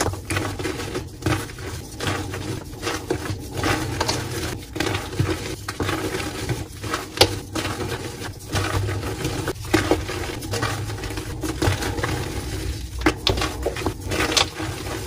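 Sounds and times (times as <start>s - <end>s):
chalk crunching and crumbling: 0.0s - 15.0s.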